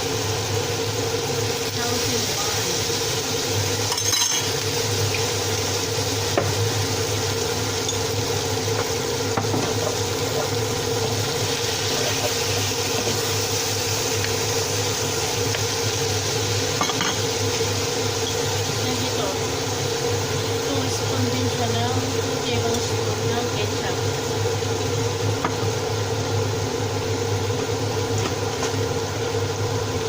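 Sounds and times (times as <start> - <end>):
sizzling: 0.0 - 30.0.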